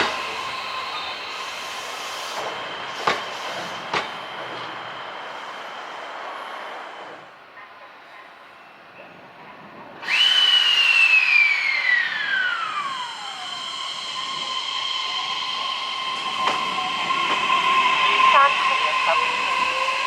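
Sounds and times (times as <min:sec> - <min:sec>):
electric train inverter whining: 0:00.0 - 0:07.4, 0:10.0 - 0:20.0.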